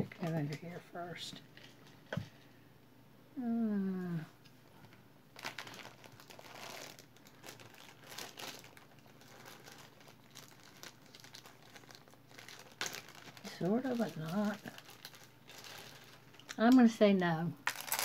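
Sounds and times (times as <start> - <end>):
crinkling and rustling: 0.0 - 2.5, 4.4 - 17.0, 17.6 - 18.0.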